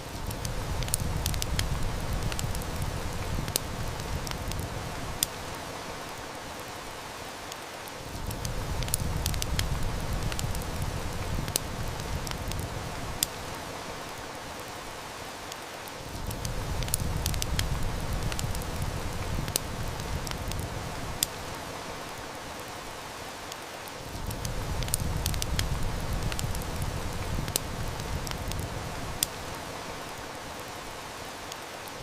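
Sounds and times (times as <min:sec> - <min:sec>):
heavy rain: 0:00.0 - 0:32.0
wood fire crackling: 0:00.0 - 0:32.0.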